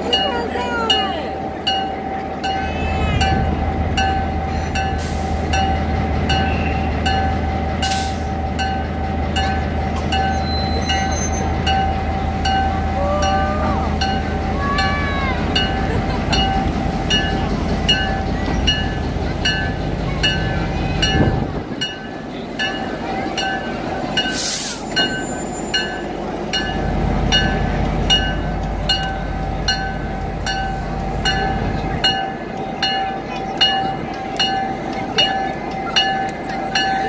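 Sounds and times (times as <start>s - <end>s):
electric warning bell ringing: 0.0s - 37.0s.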